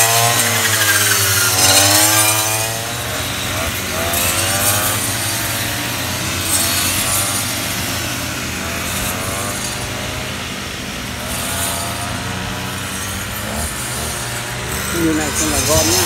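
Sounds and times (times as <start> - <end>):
brush cutters cutting stalks: 0.0 - 16.0.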